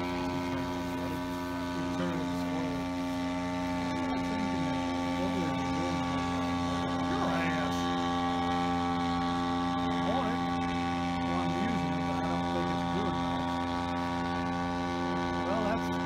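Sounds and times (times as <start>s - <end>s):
model plane engine drone: 0.0s - 16.0s.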